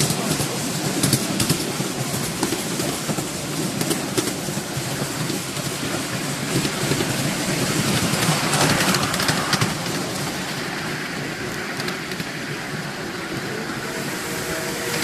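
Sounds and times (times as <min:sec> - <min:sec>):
hissing rush: 0:00.0 - 0:15.0
train wheels clattering on rails: 0:00.0 - 0:15.0.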